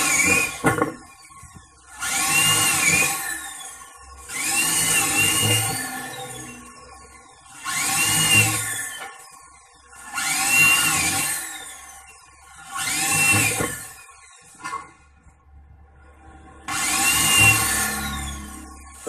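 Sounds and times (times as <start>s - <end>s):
electric drill whining through metal: 0.0s - 15.2s, 16.2s - 19.0s.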